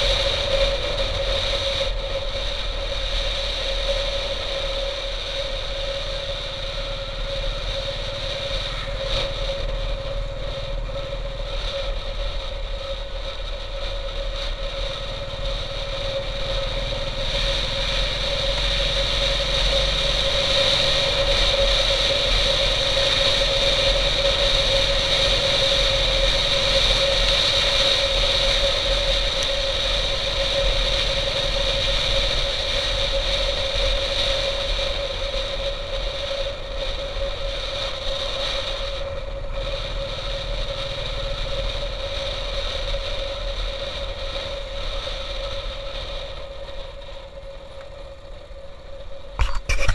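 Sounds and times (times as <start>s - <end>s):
motorcycle engine running: 0.0s - 49.9s
road and wind noise: 0.0s - 49.9s.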